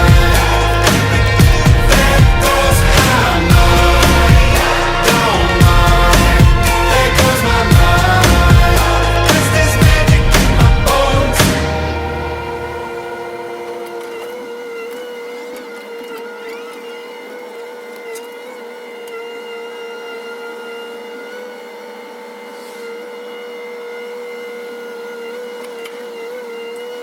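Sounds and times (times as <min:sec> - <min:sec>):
excavator high whine: 0:00.0 - 0:27.0.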